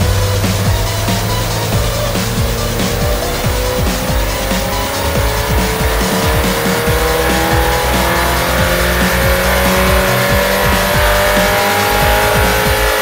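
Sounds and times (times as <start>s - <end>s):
turbocharged engine revving under load: 0.0s - 13.0s.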